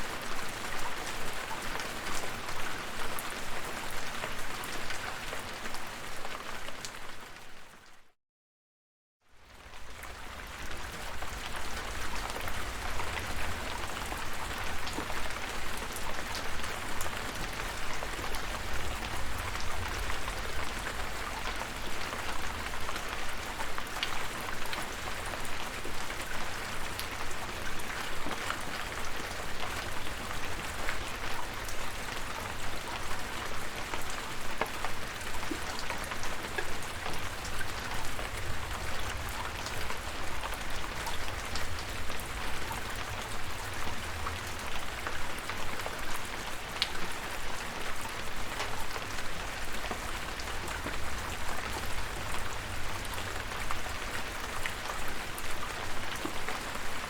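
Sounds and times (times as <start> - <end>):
rain drops pattering: 0.0 - 8.0, 9.4 - 57.0.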